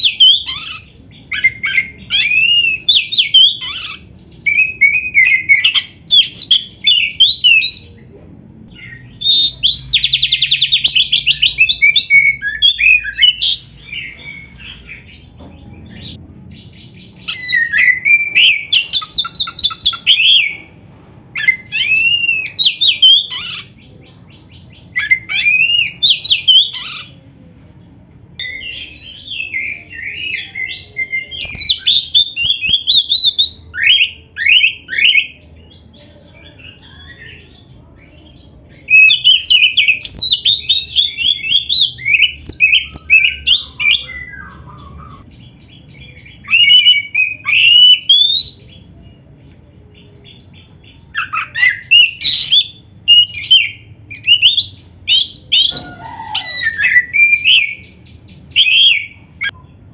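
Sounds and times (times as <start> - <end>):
magpie-robin singing: 0.0 - 8.0, 8.7 - 20.8, 21.4 - 27.3, 28.4 - 59.9.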